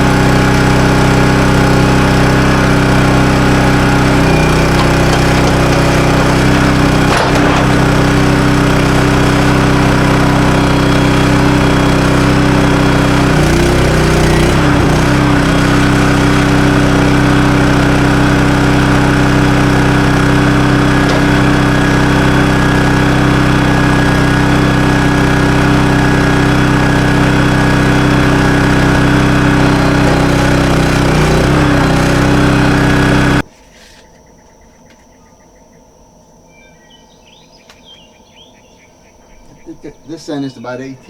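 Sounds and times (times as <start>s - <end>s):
sawmill gas engine running: 0.0s - 33.5s.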